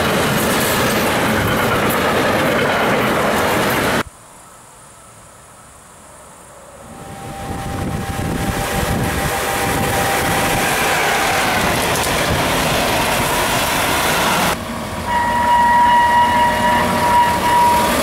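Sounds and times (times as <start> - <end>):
freight train rolling past: 0.0 - 4.1, 5.0 - 18.0
train approaching: 0.0 - 18.0.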